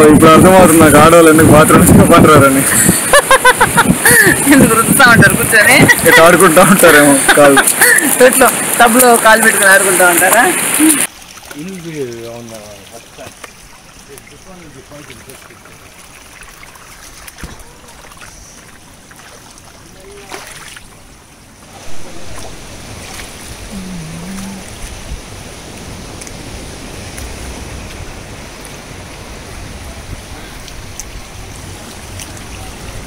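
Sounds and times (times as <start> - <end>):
surf washing with low rumble: 0.0 - 33.0
sea water lapping around rocks: 2.6 - 33.0.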